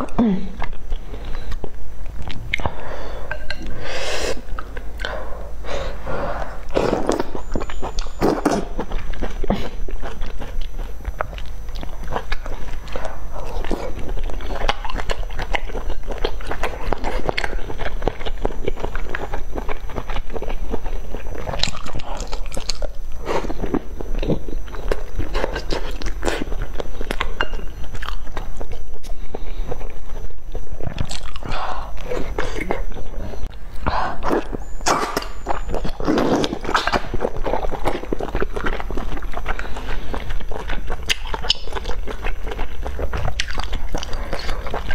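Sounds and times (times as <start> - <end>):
low hum: 0.0 - 44.9
wet chewing with mouth clicks: 0.0 - 44.9.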